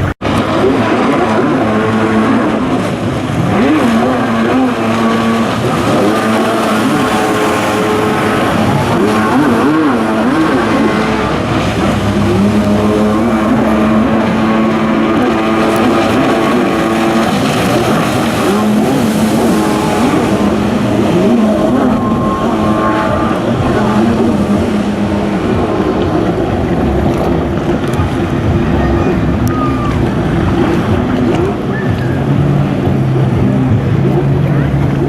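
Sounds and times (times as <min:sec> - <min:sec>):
jet ski engines racing: 0:00.0 - 0:35.0.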